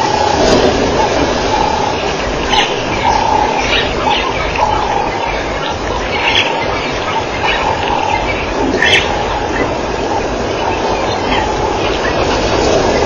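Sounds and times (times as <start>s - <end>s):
steady rushing noise: 0.0s - 13.0s
wild dogs twittering chirps: 0.2s - 13.0s.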